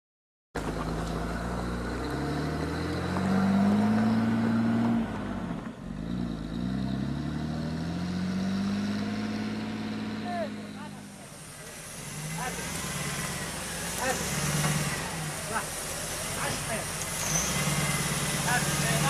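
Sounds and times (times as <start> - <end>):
car engine revving under load: 0.6 - 19.0.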